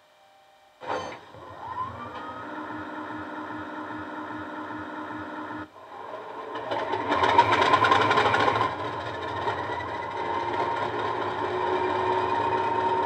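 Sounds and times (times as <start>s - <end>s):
model train diesel engine sound: 0.8s - 13.0s.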